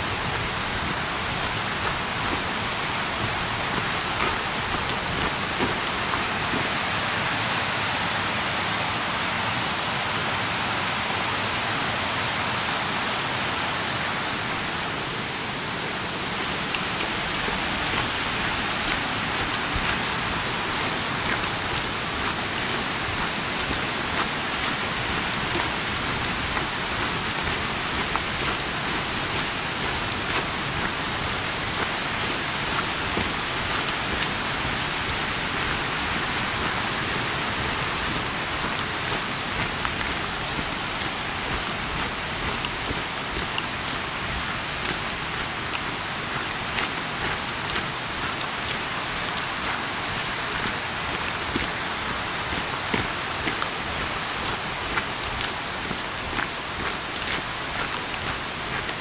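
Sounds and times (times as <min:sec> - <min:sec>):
footsteps on dirt trail: 0:00.0 - 0:07.2, 0:14.1 - 0:59.0
stream rushing over rocks: 0:00.0 - 0:59.0.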